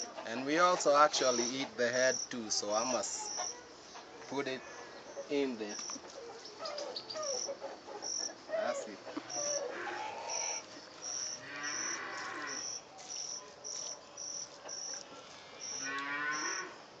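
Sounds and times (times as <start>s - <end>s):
cricket chirping: 0.0s - 17.0s
longer lower insect calls: 0.0s - 17.0s.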